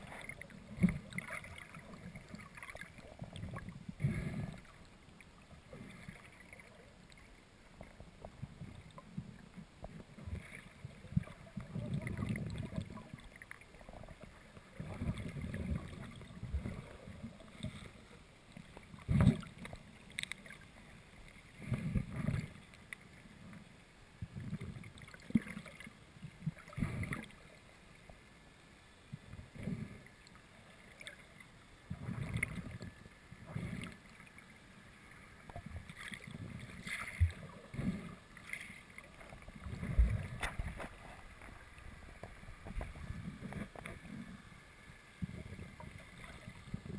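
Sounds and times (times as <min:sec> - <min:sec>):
muffled underwater sloshing: 0:00.0 - 0:46.9.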